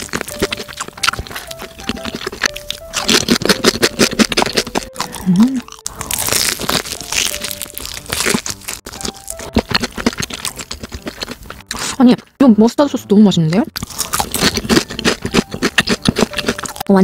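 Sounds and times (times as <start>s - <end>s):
crunching fried chicken batter: 0.0s - 12.0s, 13.8s - 17.0s.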